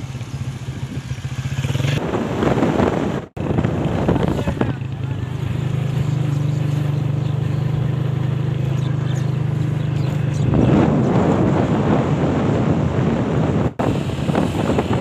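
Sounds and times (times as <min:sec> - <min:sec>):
motorcycle engine humming: 0:00.0 - 0:15.0
wind buffeting microphone: 0:00.0 - 0:15.0.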